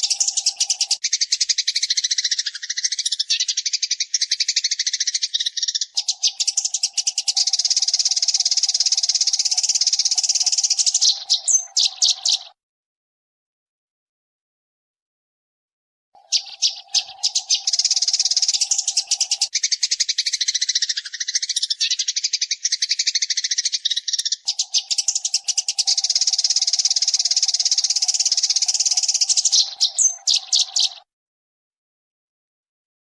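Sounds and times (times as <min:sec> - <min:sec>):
sparrow chirping and chattering: 0:00.0 - 0:12.6, 0:16.2 - 0:31.1.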